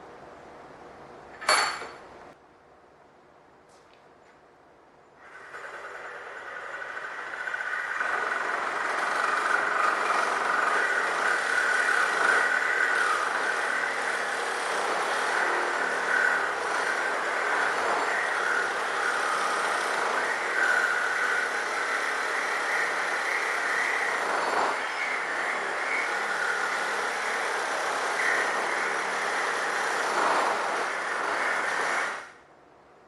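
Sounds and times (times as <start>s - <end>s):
reciprocating saw cutting steel: 5.2s - 32.4s.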